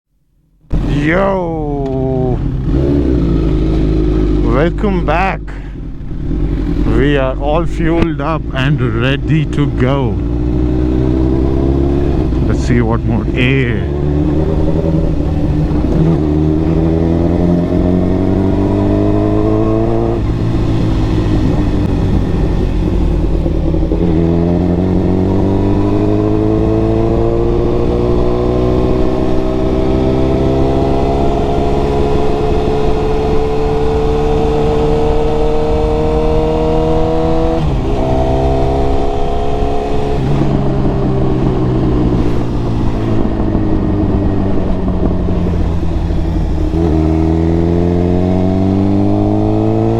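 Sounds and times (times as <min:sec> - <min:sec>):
motorcycle engine revving: 0:00.7 - 0:49.9.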